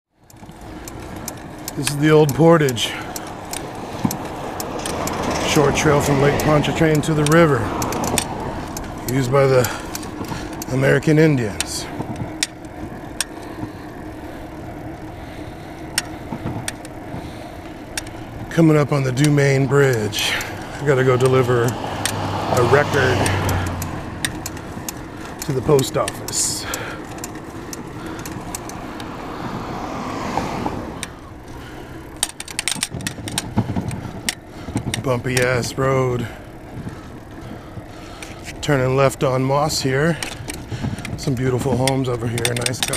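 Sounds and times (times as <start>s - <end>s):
bike tyres rumbling on asphalt: 0.1s - 42.9s
bike rattling clicks: 0.2s - 42.9s.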